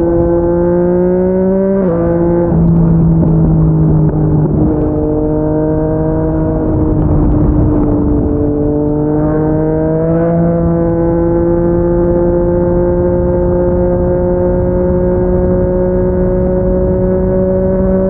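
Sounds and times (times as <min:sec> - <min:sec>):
wind noise: 0:00.0 - 0:18.0.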